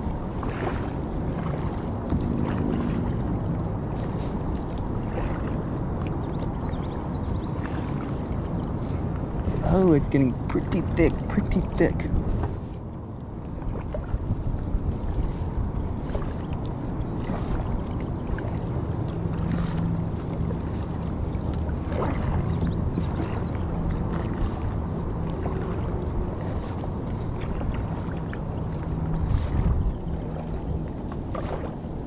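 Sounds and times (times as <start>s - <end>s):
water splashing around paddle: 0.0s - 32.0s.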